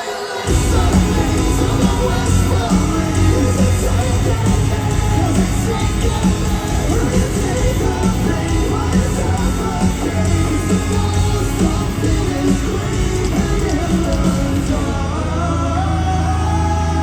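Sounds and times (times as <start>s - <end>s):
live heavy metal band: 0.0s - 17.0s.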